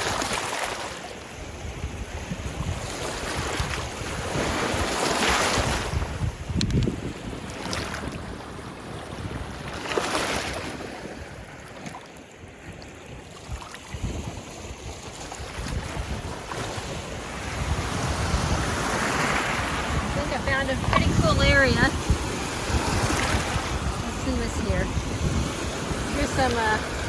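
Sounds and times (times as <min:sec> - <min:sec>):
waves washing onto shore: 0:00.0 - 0:27.0
wind rumbling on microphone: 0:00.0 - 0:27.0.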